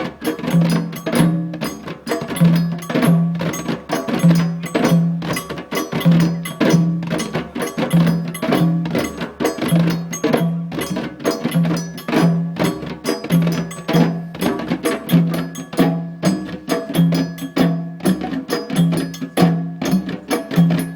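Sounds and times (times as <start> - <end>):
djembe drumming: 0.0 - 20.9.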